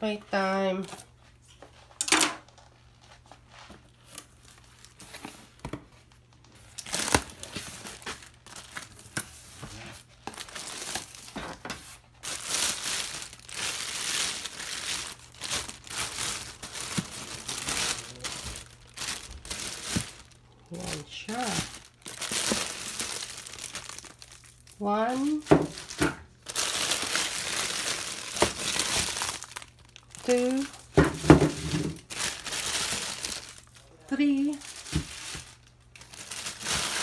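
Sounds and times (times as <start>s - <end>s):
plastic bag crinkling: 3.9s - 37.0s.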